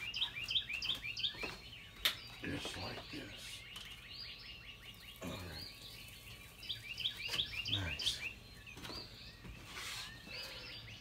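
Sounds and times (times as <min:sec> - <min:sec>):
small songbird singing: 0:00.0 - 0:11.0.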